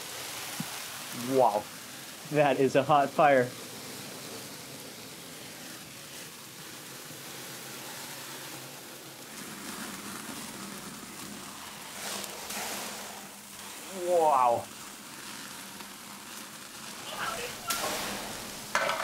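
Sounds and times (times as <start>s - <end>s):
fire crackling and hissing: 0.0s - 19.0s
meat sizzling: 0.0s - 19.0s.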